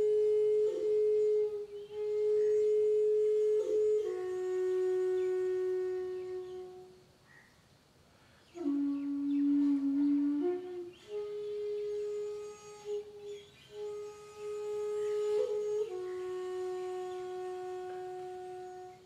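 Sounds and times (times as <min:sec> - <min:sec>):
flute playing long held notes: 0:00.0 - 0:07.0, 0:08.5 - 0:19.0.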